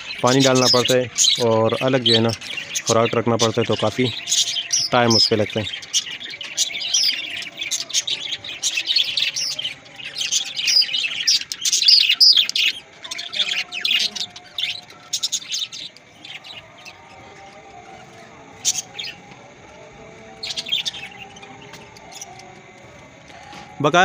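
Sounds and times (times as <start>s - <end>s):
budgerigars chattering: 0.0s - 24.0s.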